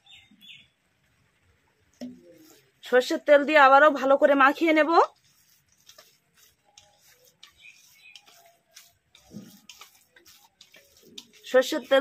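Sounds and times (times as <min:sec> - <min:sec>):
hand kneading soft food: 0:01.8 - 0:12.0.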